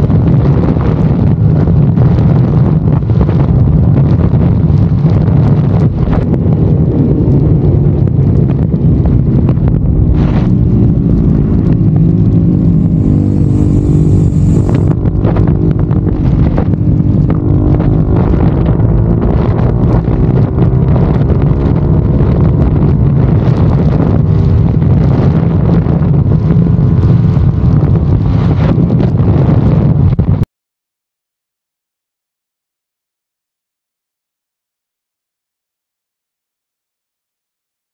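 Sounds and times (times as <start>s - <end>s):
motorcycle engine running: 0.0s - 30.4s
wind buffeting microphone: 0.0s - 30.4s.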